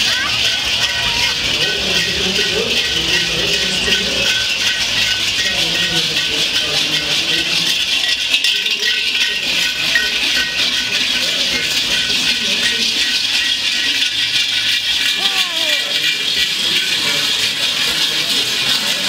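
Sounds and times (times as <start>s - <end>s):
large bells clanging and jangling: 0.0s - 19.0s.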